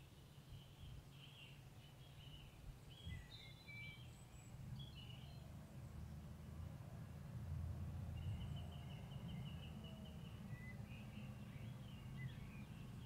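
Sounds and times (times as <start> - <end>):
small birds singing: 0.0 - 6.3, 8.1 - 13.0.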